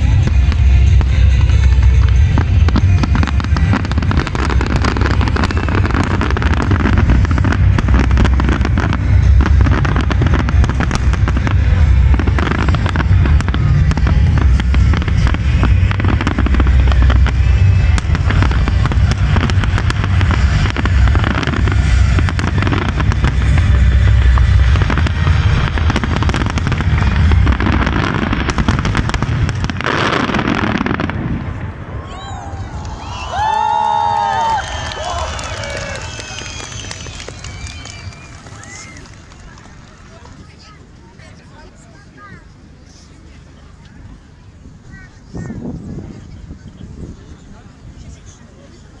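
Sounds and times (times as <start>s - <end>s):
low booming rumble: 0.0s - 39.8s
fireworks crackling: 0.0s - 41.3s.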